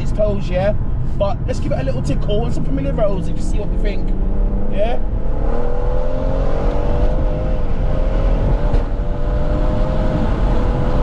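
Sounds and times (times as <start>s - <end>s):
car engine accelerating: 1.5s - 11.0s.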